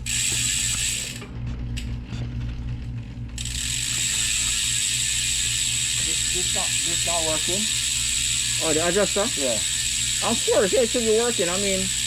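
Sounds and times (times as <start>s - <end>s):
bicycle freewheel ratcheting: 0.0s - 1.9s, 3.4s - 12.0s
bicycle chain running: 0.0s - 12.0s.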